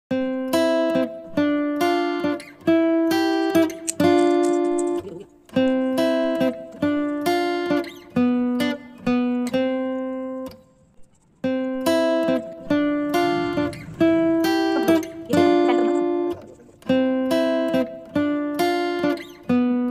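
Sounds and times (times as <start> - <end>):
plucked guitar melody: 0.1 - 19.9.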